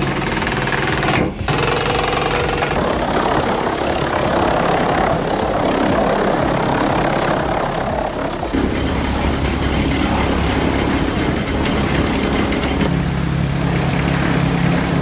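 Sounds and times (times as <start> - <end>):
heavy machinery engine running: 0.0 - 15.0.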